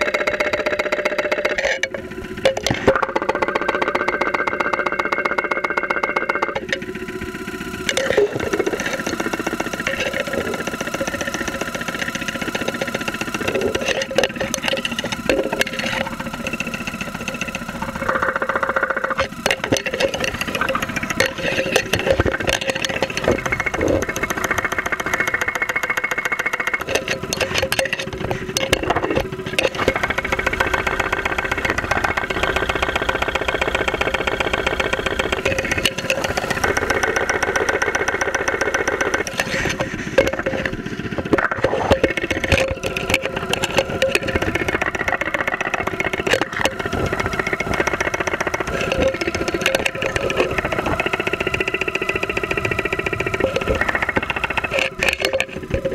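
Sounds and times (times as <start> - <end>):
car engine idling with knocking: 0.0 - 55.9.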